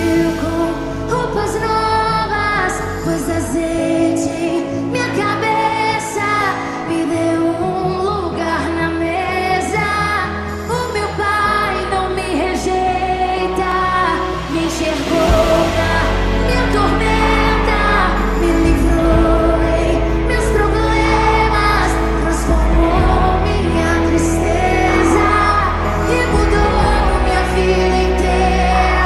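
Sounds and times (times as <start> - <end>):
band accompaniment with bass: 0.0 - 6.1, 10.4 - 29.0
person singing with vibrato: 0.0 - 29.0.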